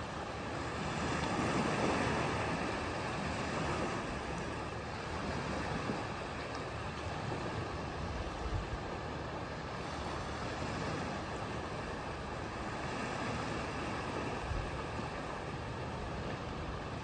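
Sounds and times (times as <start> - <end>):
small waves lapping on beach: 0.0 - 17.0.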